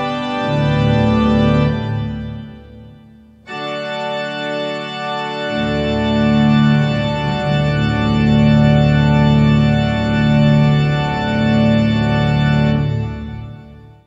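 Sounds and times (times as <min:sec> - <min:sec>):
deep organ pedal notes: 0:00.0 - 0:14.0
organ playing held chords: 0:00.0 - 0:14.0.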